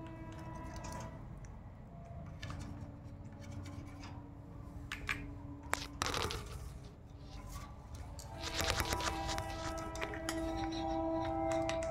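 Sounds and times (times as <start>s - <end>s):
claws and beak scratching cage bars: 0.0s - 4.3s, 5.0s - 11.9s.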